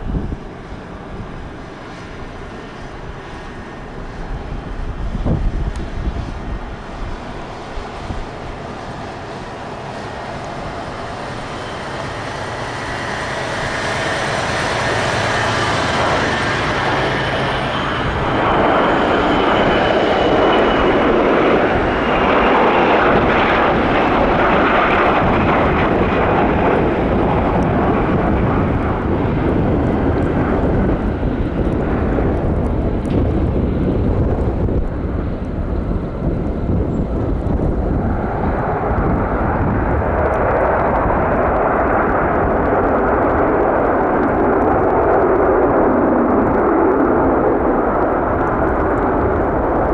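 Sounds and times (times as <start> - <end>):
jet engine whine: 0.0 - 49.9
loud jet roar: 0.0 - 49.9.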